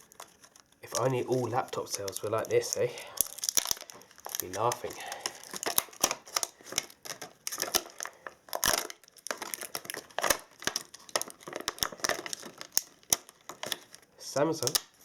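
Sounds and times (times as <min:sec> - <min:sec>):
plastic casing cracking and tearing: 0:00.0 - 0:15.0.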